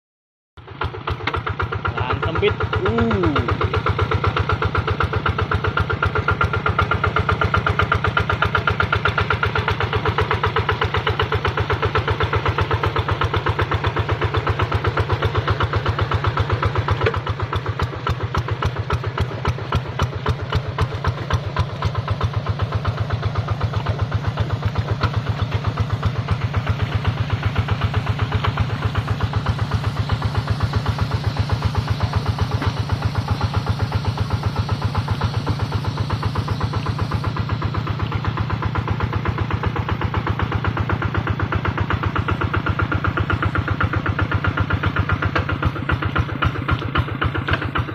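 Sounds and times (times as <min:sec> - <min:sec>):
diesel engine running: 0:00.6 - 0:47.9.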